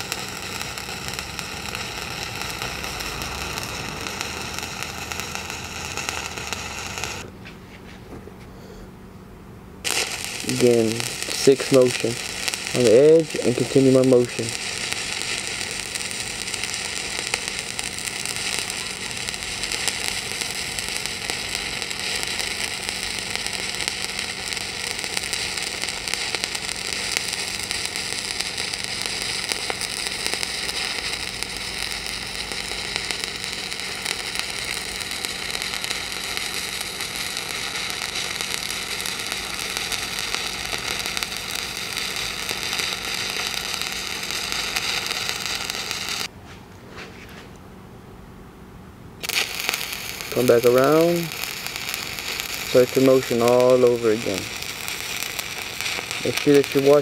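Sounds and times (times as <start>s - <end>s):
welding arc hissing: 0.0s - 7.3s, 9.8s - 46.3s, 49.2s - 57.0s.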